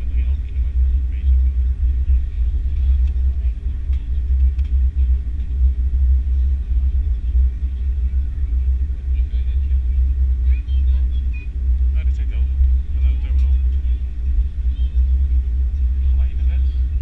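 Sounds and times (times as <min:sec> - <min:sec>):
airliner taxiing rumble: 0:00.0 - 0:17.0.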